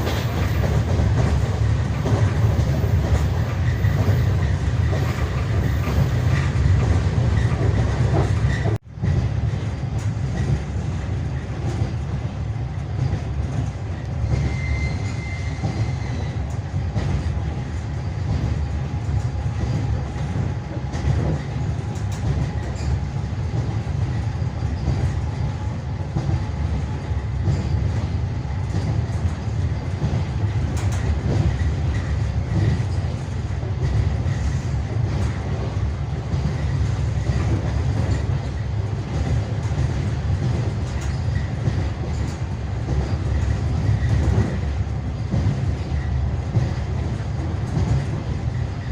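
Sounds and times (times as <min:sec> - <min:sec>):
clickety-clack over rail joints: 0:00.0 - 0:48.9
train wheels rumbling on rails: 0:00.0 - 0:48.9.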